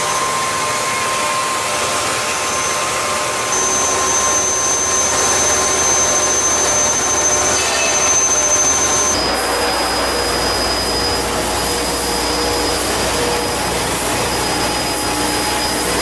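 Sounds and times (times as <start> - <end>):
faint high whine: 0.0 - 16.0
hissing machine noise: 0.0 - 16.0.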